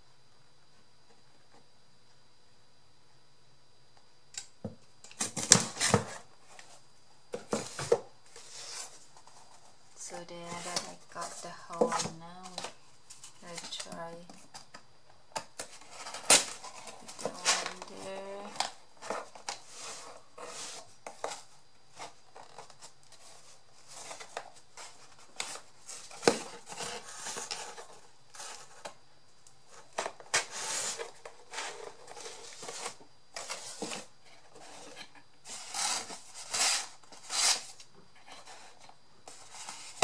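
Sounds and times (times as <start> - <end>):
cardboard rustling and scraping: 5.1 - 29.0, 29.6 - 40.0.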